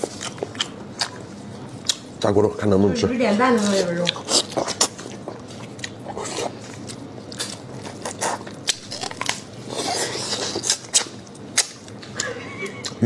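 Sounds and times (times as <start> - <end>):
crunching on fried fish bone: 0.0 - 2.2, 4.0 - 13.0
chewing: 0.0 - 2.3, 3.6 - 13.0.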